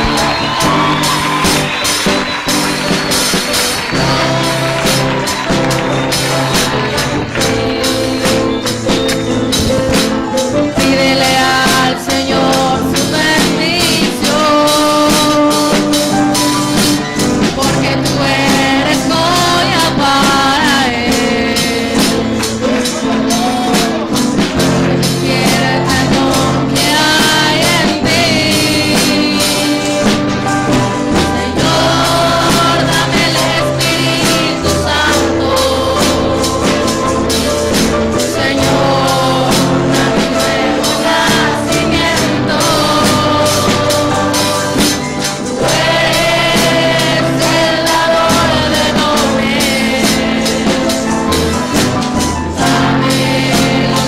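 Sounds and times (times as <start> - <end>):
group singing gospel song: 0.0 - 54.0.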